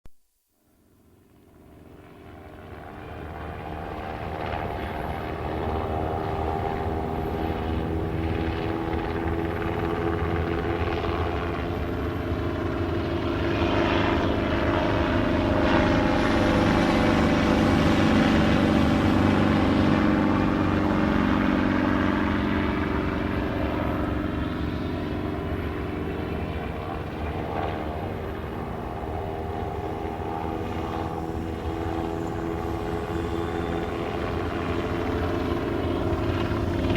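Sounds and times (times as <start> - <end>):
helicopter flying over: 0.7 - 36.9.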